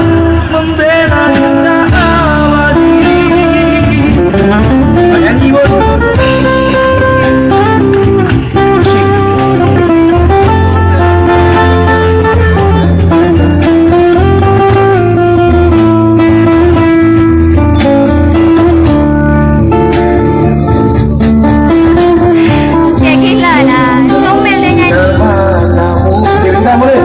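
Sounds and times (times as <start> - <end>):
cajon beat: 0.0 - 27.0
guitars playing melody: 0.0 - 27.0.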